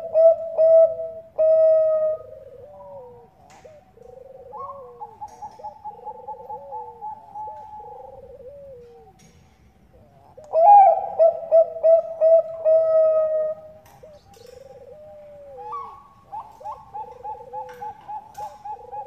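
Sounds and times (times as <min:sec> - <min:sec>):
doves cooing: 0:00.0 - 0:19.0.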